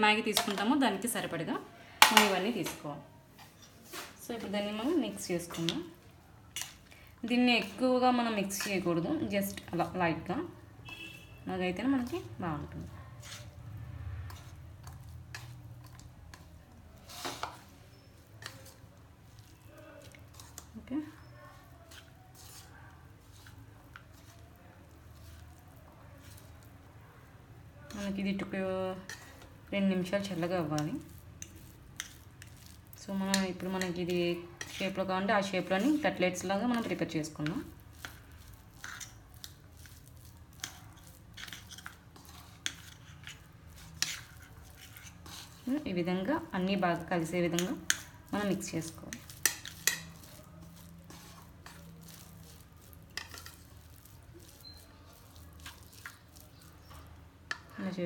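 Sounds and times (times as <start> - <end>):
soft squishing of food: 0.7 - 58.0
spoon scraping batter in bowl: 2.0 - 10.2, 10.8 - 26.9, 27.8 - 57.9.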